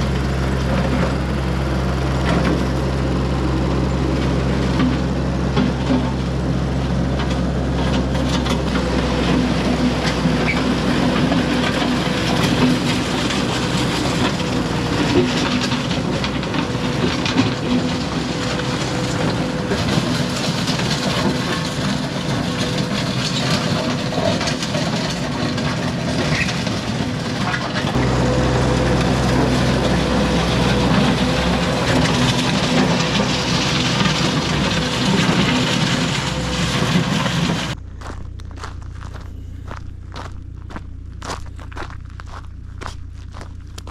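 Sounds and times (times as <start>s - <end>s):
skid steer engine running: 0.0s - 43.9s
bucket rattling in gravel: 2.1s - 43.9s.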